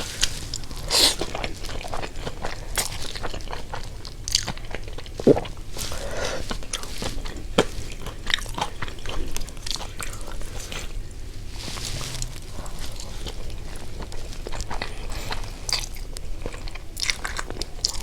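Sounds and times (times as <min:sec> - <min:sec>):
crunchy bites and chewing: 0:00.0 - 0:11.0, 0:11.6 - 0:18.0.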